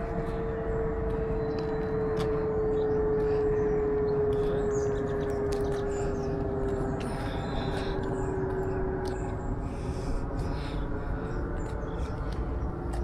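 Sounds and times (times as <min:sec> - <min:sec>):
low rumble: 0:00.0 - 0:13.0
steady droning hum: 0:00.0 - 0:13.0.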